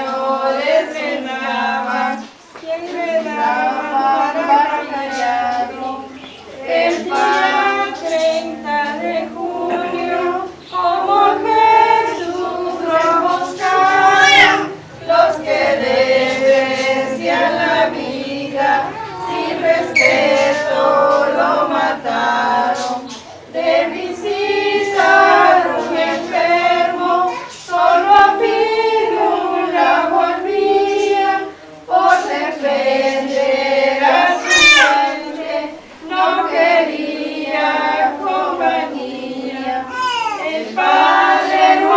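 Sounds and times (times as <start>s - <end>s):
women singing a religious song: 0.0s - 41.9s.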